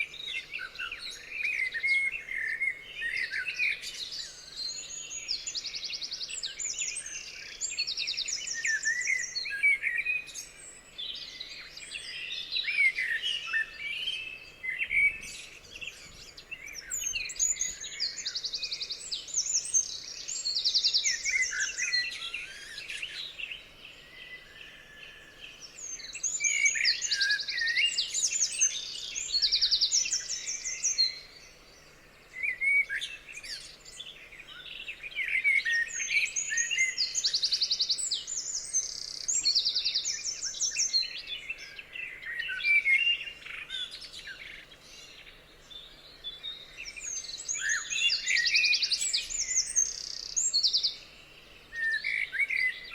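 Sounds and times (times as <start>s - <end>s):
songbirds singing: 0.0s - 52.9s.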